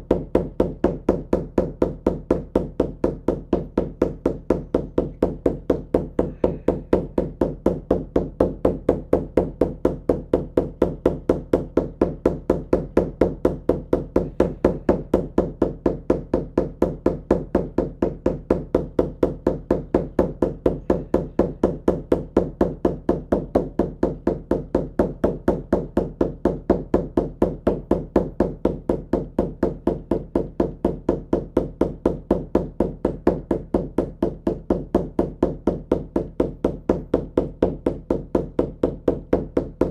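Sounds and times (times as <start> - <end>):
hand drum beating steadily: 0.0 - 39.9.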